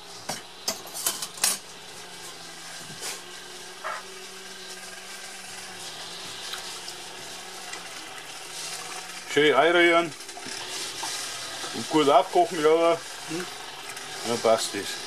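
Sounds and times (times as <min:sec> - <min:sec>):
gas burner hiss: 0:00.0 - 0:15.0.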